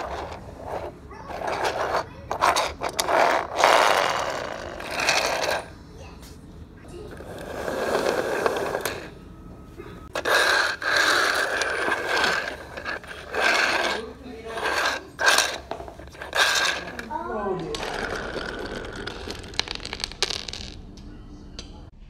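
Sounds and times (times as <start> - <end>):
toy car wheels whirring: 0.0 - 5.8, 6.9 - 9.2, 10.1 - 20.8.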